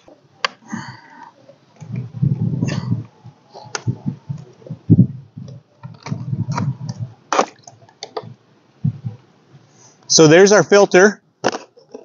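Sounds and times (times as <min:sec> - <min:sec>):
low rumbling handling noise: 0:00.0 - 0:09.6.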